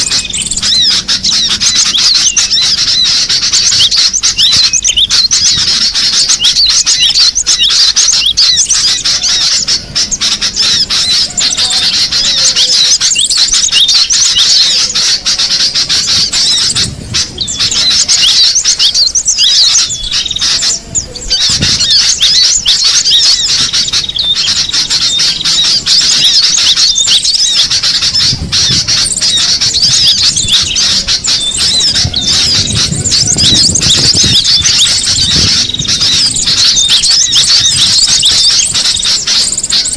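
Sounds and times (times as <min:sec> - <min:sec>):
tit chirping rapidly: 0:00.0 - 0:39.9.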